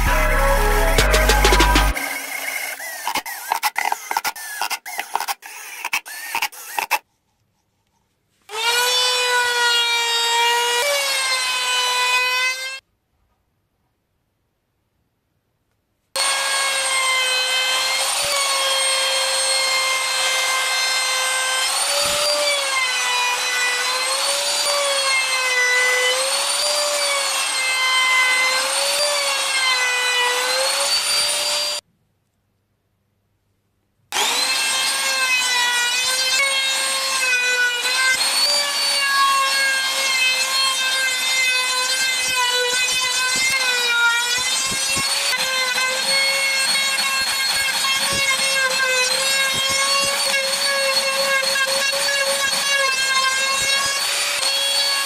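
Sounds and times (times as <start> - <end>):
router whining: 0.0 - 7.1, 8.5 - 12.8, 16.2 - 31.8, 34.2 - 55.0.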